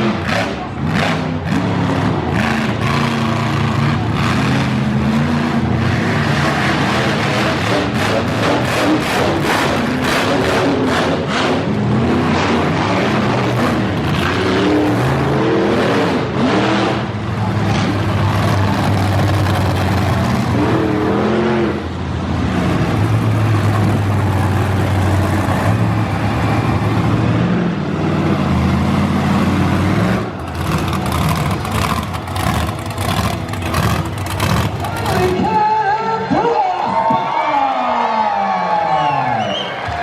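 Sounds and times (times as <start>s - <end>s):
truck engine revving: 0.0s - 35.6s.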